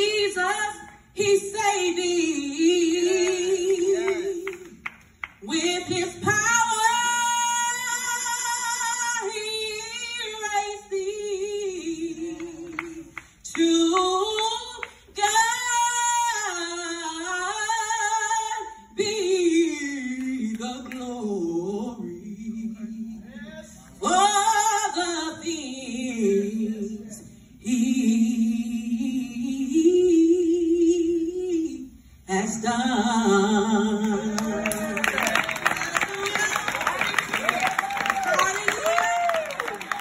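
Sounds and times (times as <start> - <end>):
woman singing gospel solo: 0.0 - 23.2, 24.0 - 40.0.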